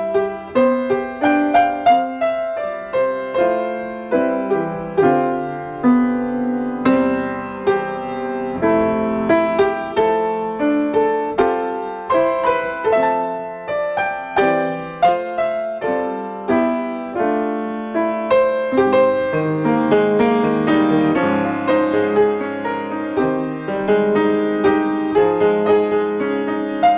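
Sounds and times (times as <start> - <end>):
slow gentle solo piano: 0.0 - 26.9.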